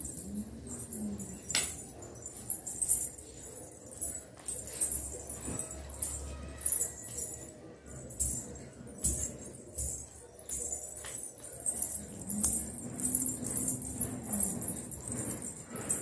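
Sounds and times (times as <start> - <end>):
bell anklets jingling: 0.0 - 16.0.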